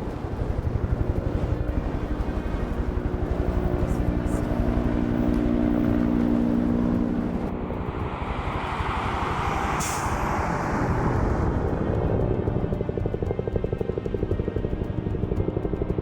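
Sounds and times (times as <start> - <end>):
broad rushing noise: 0.0 - 13.2
helicopter engine tone: 0.0 - 16.0
helicopter rotor pulsing: 0.0 - 16.0.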